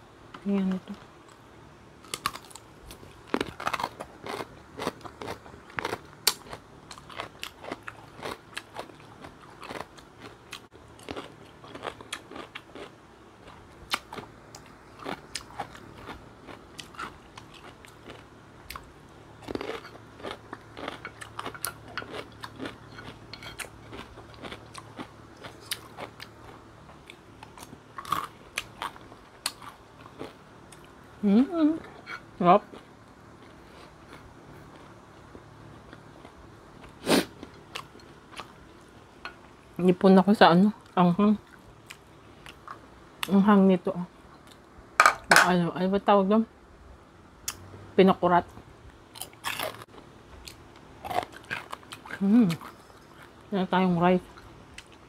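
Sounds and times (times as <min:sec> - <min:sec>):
chewing crunchy food: 0:01.0 - 0:31.0, 0:31.8 - 0:39.6, 0:40.8 - 0:43.3, 0:48.5 - 0:53.5, 0:54.2 - 0:55.0.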